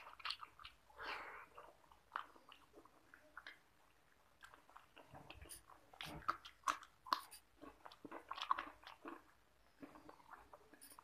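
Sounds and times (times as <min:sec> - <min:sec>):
person eating by hand: 0:00.0 - 0:11.0.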